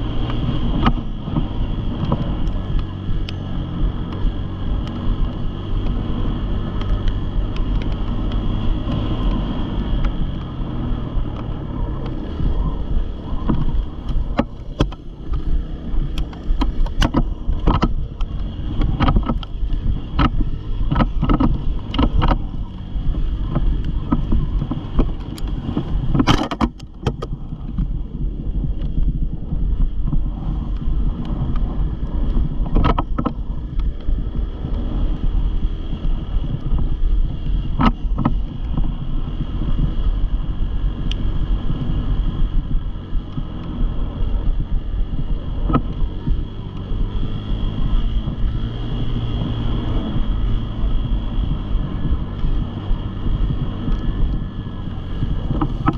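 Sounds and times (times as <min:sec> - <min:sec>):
dirt bike engine running: 0:00.0 - 0:55.9
wind buffeting microphone: 0:00.0 - 0:55.9.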